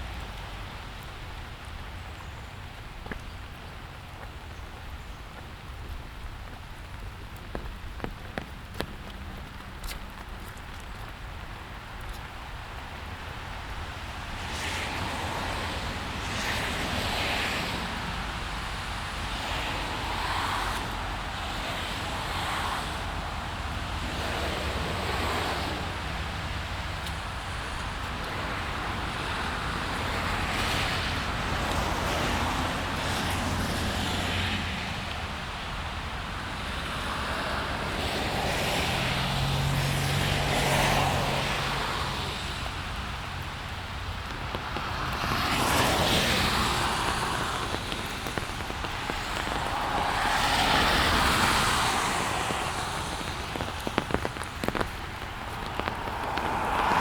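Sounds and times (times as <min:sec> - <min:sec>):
steady rain: 0:00.0 - 0:57.0
tyres hissing on wet road: 0:00.0 - 0:57.0.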